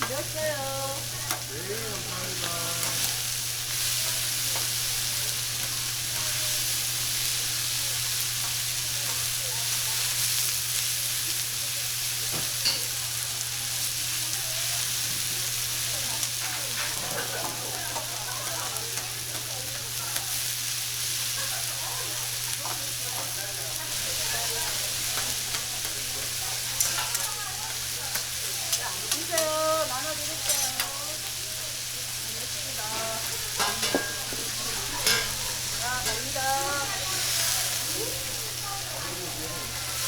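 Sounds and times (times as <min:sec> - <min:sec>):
meat sizzling on a griddle: 0:00.0 - 0:40.0.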